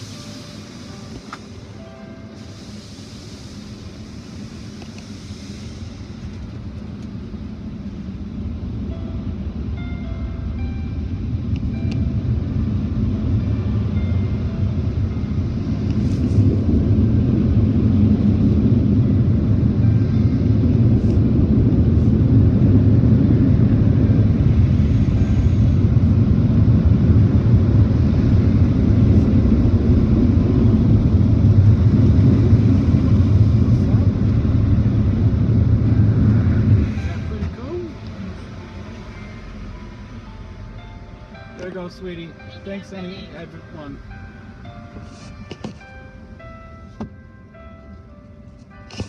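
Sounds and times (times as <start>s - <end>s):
muffled car wash machinery rumble: 0.0s - 49.0s.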